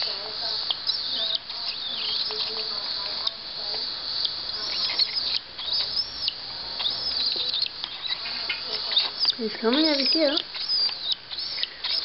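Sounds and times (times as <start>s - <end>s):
cockatiel chick begging: 0.8s - 3.0s, 4.2s - 12.0s.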